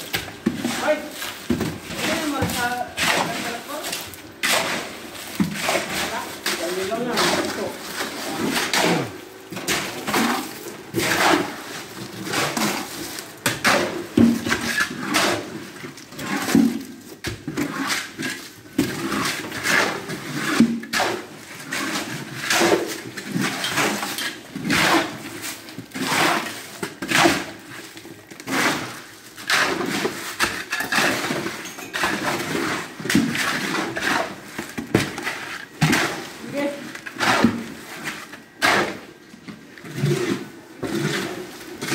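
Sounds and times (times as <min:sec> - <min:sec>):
shovels scraping wet concrete: 0:00.0 - 0:41.9.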